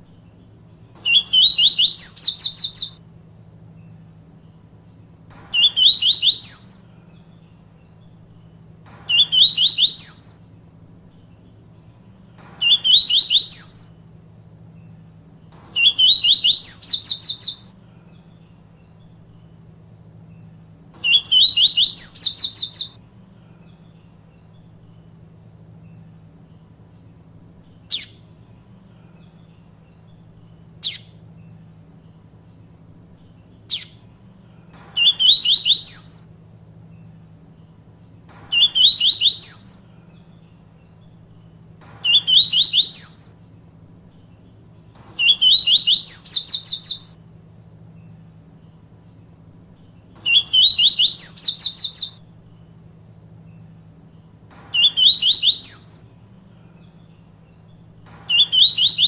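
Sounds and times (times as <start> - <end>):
bird singing trilled phrases: 0.0 - 59.0
faint steady hum: 0.0 - 59.0.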